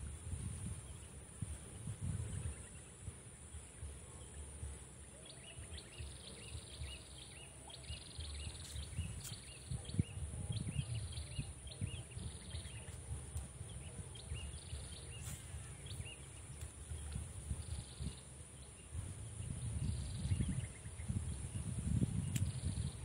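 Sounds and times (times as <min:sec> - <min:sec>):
wind buffeting microphone: 0:00.0 - 0:23.0
bird chirping: 0:00.6 - 0:23.0.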